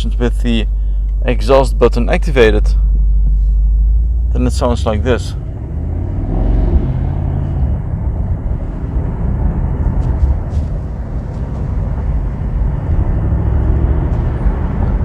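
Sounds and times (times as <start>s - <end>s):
car exhaust low rumble: 0.0s - 15.0s.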